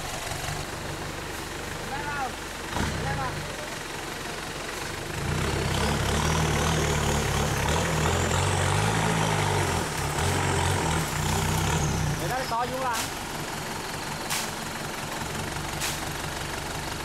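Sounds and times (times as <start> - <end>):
suv engine pulling under load: 0.0 - 17.0.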